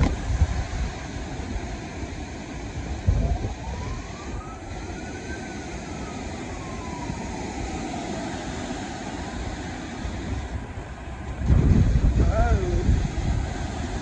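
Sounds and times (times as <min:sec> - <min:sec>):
hurricane wind and rain: 0:00.0 - 0:14.0
wind buffeting microphone: 0:00.0 - 0:14.0.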